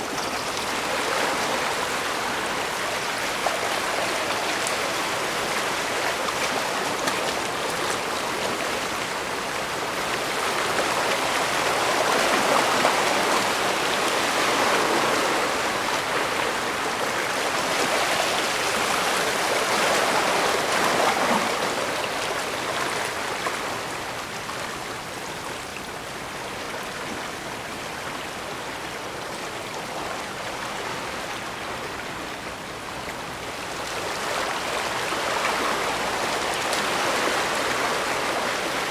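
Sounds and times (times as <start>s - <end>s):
water lapping against shore: 0.0s - 38.9s.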